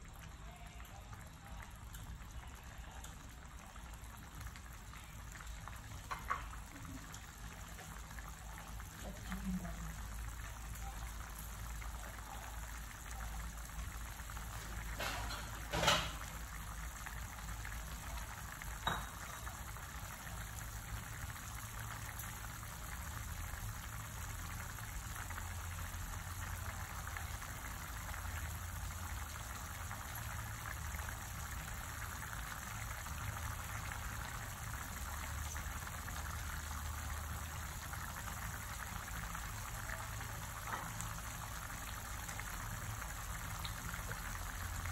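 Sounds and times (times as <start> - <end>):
sauce bubbling in a pan: 0.0 - 44.9.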